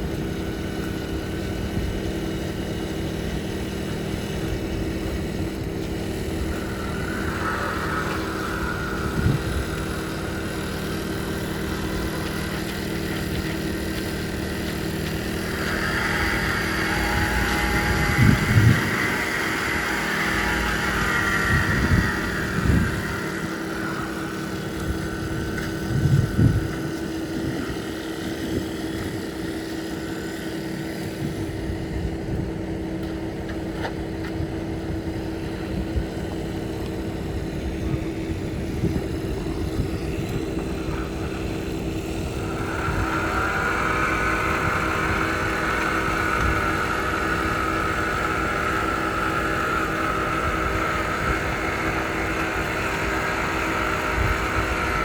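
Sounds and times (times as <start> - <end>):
engine running: 0.0 - 55.0
high-pitched whine: 0.0 - 55.0.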